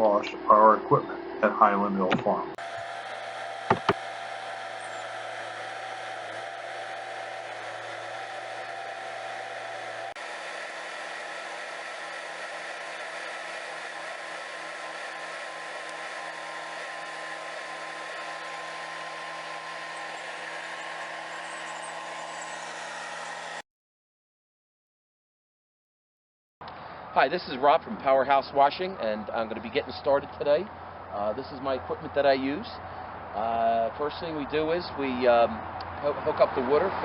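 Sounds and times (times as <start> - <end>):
engine humming steadily: 0.0 - 23.6, 26.6 - 37.0.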